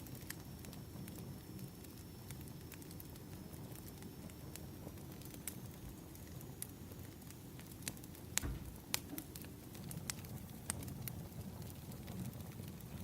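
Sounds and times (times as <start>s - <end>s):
fire crackles and pops: 0.0s - 13.0s
wood fire burning: 0.0s - 13.0s.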